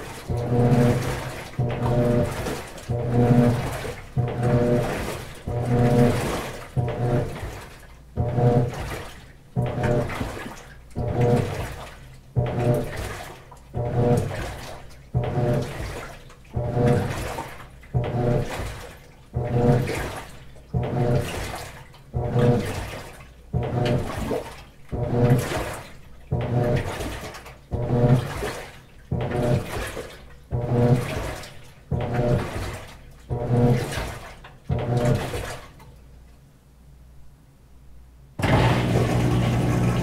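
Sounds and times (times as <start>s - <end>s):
washing machine agitating: 0.0s - 36.1s, 38.4s - 40.0s.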